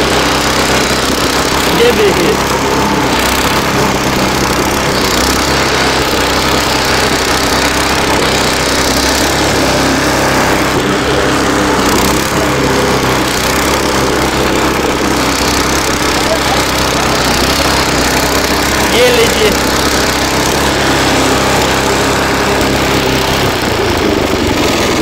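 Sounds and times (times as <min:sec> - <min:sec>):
rotary tiller working soil: 0:00.0 - 0:25.0
small engine running: 0:00.0 - 0:25.0.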